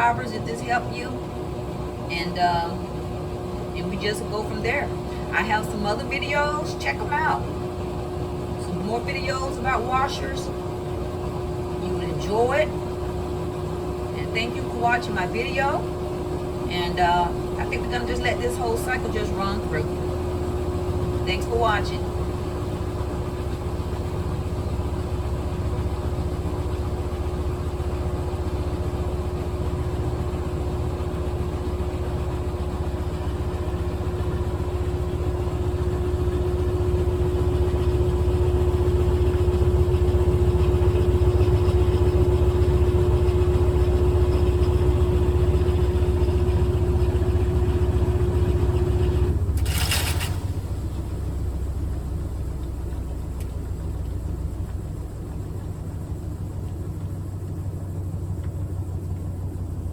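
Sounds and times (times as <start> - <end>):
motor hum: 0.0 - 59.9.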